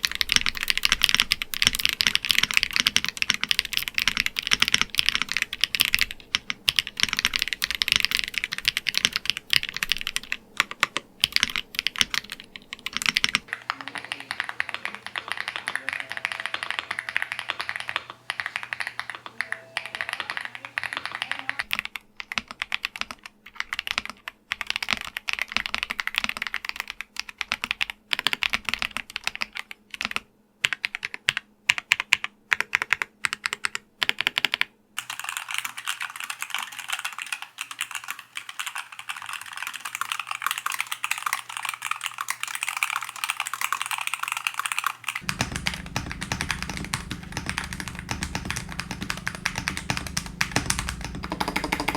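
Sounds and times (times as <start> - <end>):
fast typing on keyboards: 0.0 - 51.9.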